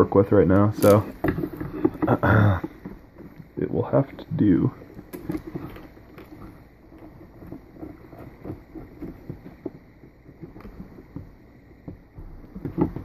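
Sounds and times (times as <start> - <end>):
fingers tapping and scraping frame: 0.0 - 13.0.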